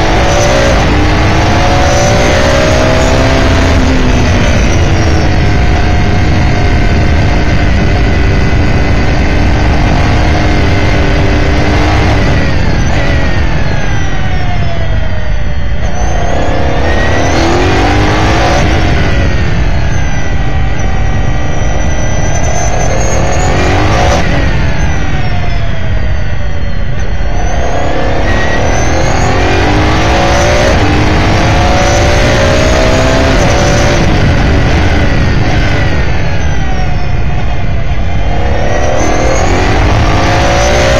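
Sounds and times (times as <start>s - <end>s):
racing car engine: 0.0s - 40.9s.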